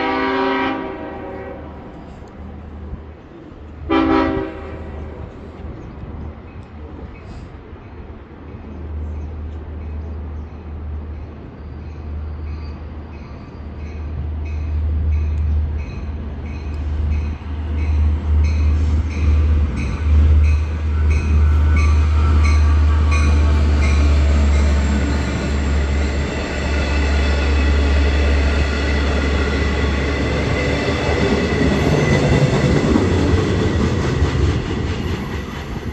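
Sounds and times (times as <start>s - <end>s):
train passing with rumble: 0.0s - 35.9s.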